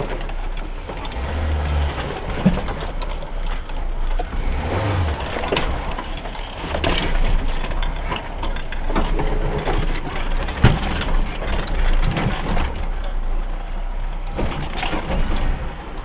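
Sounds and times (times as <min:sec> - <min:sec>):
car engine hum: 0:00.0 - 0:16.0
road noise: 0:00.0 - 0:16.0.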